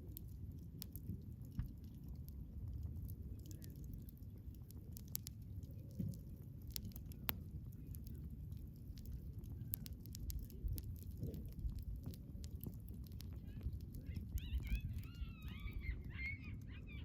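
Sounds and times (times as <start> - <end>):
crackles and pops of burning wood: 0.0 - 17.0
low rumble of flame: 0.0 - 17.0.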